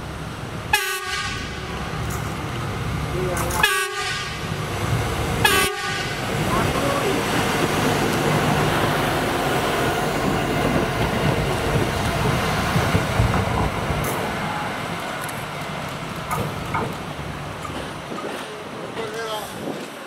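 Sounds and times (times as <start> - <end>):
train engine humming: 0.0 - 20.0.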